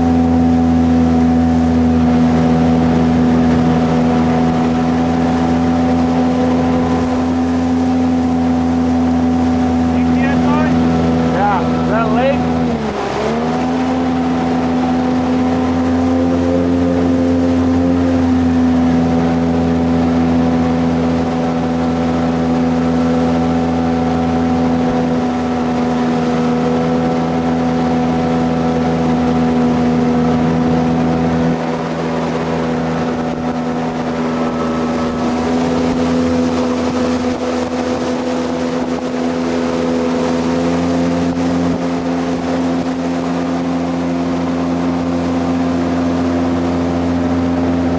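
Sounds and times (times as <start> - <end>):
boat engine droning: 0.0 - 47.9
water rushing: 0.0 - 47.9.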